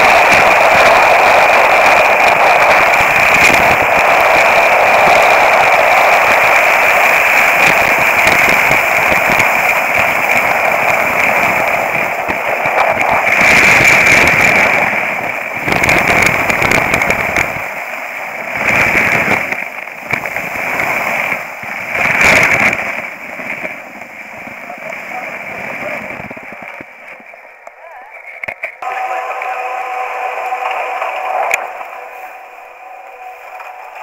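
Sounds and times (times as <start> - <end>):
skis scraping over snow: 0.0 - 34.0.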